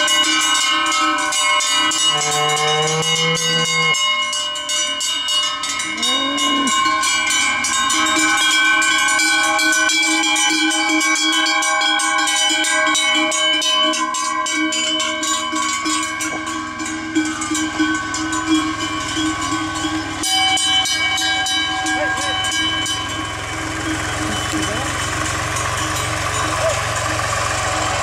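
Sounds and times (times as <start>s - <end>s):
cowbells clanging: 0.0s - 28.0s.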